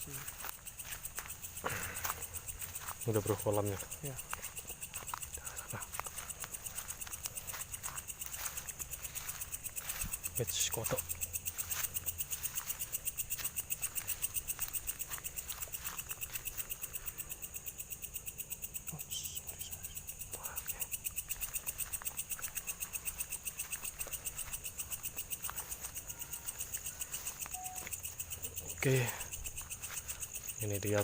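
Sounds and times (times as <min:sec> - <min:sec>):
frogs and insects pulsing chorus: 0:00.0 - 0:31.0.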